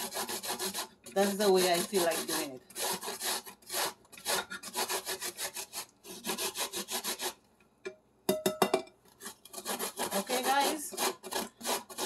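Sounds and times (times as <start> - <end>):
coconut rasping on metal grater: 0.0 - 7.4, 9.2 - 12.0.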